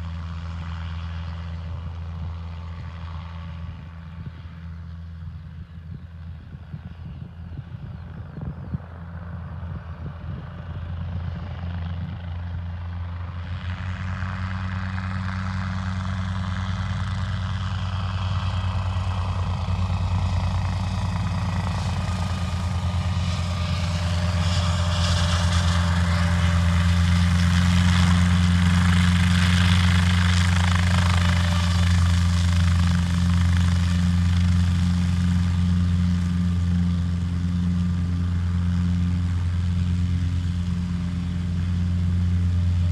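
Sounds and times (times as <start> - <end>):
helicopter piston engine hum: 0.0 - 42.9
helicopter rotor beat: 0.0 - 42.9.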